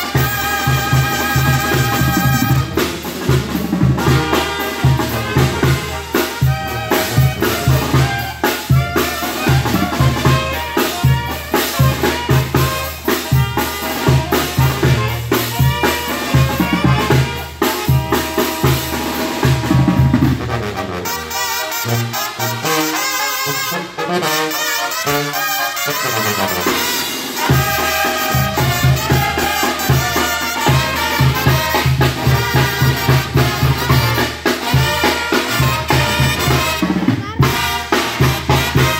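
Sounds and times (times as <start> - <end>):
bass drum and snare drums: 0.0 - 38.9
brass band playing: 0.0 - 38.9.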